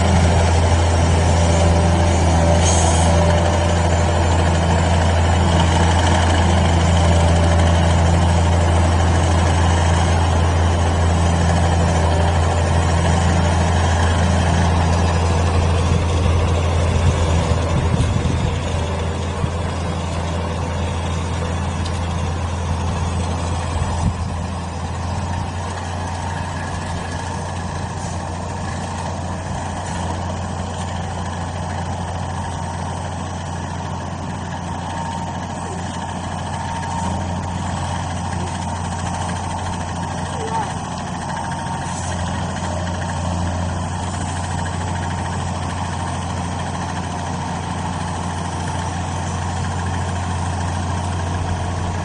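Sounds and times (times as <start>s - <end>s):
tractor engine running: 0.0s - 52.0s
vibrating harvester hum: 0.0s - 52.0s.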